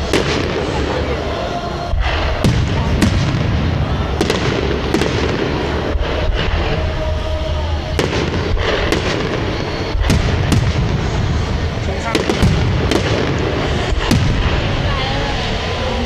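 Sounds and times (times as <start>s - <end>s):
low rumble and crackle: 0.0s - 16.0s
firework shells bursting: 1.9s - 15.2s.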